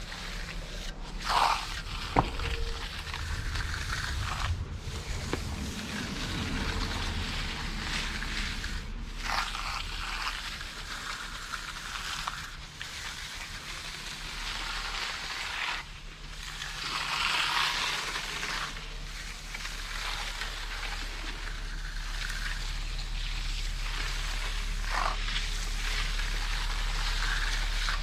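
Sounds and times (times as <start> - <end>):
steady low hum: 0.0 - 28.0
tools scraping wet concrete: 0.0 - 28.0.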